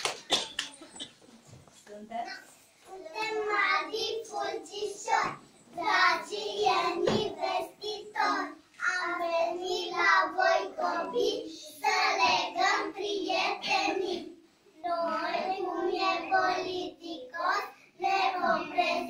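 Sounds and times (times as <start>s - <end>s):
girls singing together: 2.9s - 19.0s.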